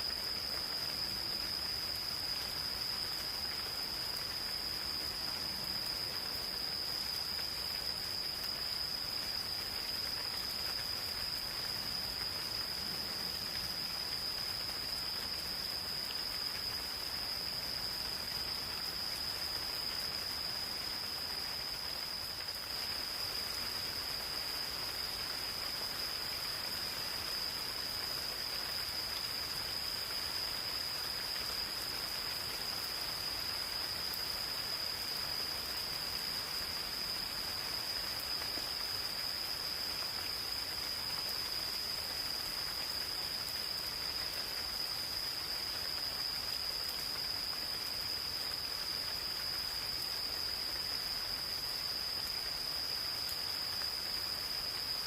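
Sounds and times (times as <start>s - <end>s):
gentle rain hissing: 0.0s - 55.0s
insects trilling: 0.0s - 55.0s.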